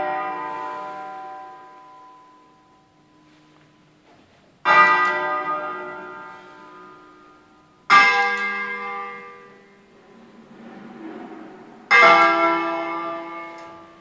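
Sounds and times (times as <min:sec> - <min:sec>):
church bell strokes: 0:00.0 - 0:03.8, 0:04.7 - 0:14.0.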